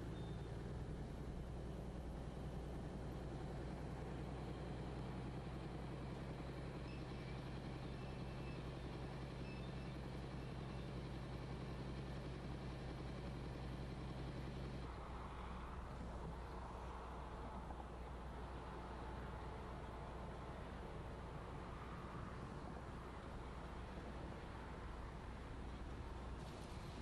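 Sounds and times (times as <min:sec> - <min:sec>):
diesel machinery engine running: 0:00.0 - 0:27.0.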